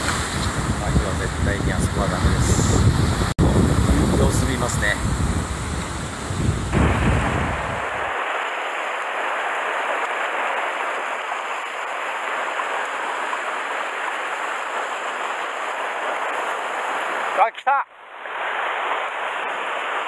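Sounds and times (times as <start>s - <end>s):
rough sea churning over rocks: 0.0s - 17.4s.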